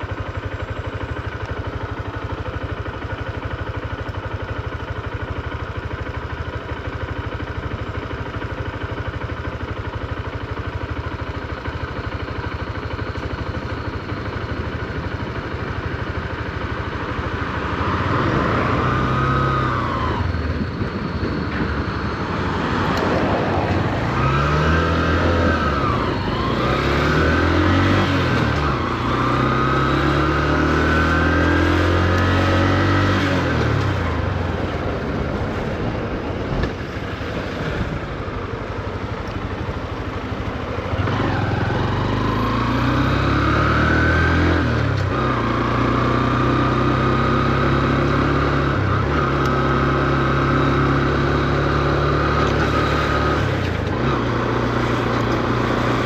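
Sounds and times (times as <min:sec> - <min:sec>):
motorcycle engine pulling away: 0:09.4 - 0:56.0.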